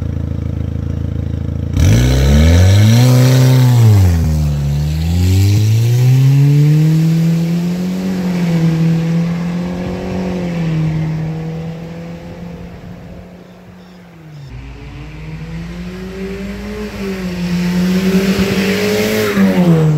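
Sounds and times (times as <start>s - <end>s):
car exhaust accelerating: 0.0s - 19.9s.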